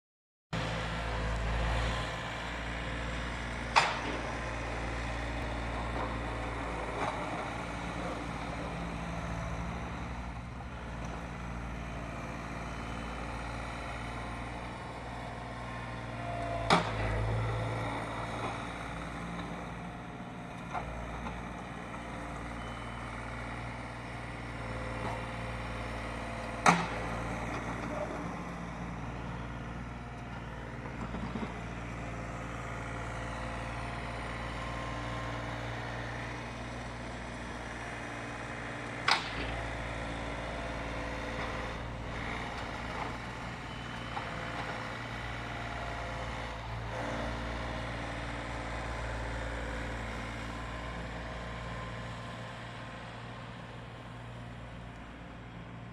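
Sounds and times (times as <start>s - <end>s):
tractor diesel engine running: 0.6s - 55.9s.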